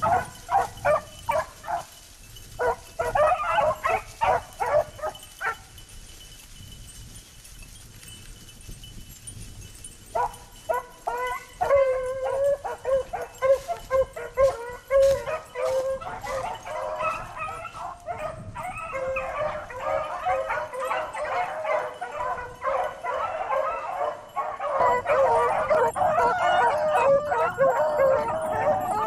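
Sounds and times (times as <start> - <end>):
hounds baying: 0.0 - 5.9, 10.0 - 29.0.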